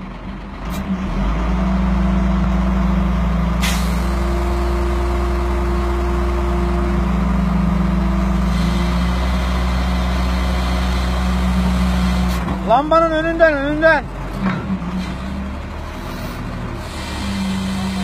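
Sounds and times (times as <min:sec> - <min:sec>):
crane engine running: 0:00.0 - 0:18.0.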